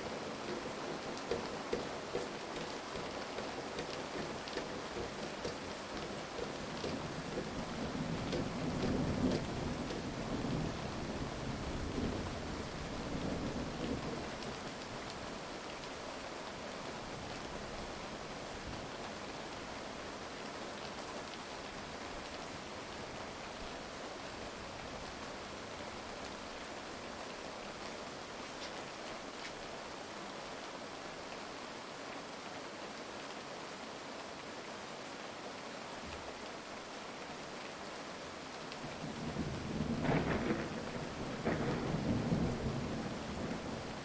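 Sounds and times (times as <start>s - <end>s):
heavy rain hiss: 0.0s - 44.0s.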